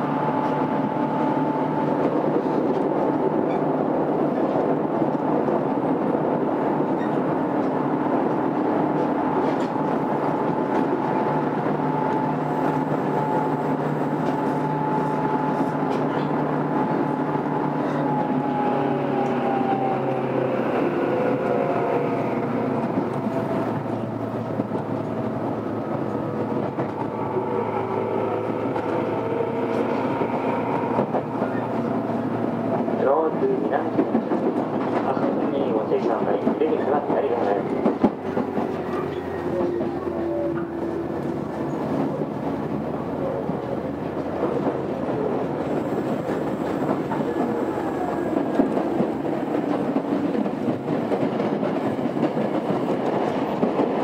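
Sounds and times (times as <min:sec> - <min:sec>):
train car rumble: 0:00.0 - 0:54.0
train whining tones: 0:08.9 - 0:35.0, 0:36.7 - 0:53.9.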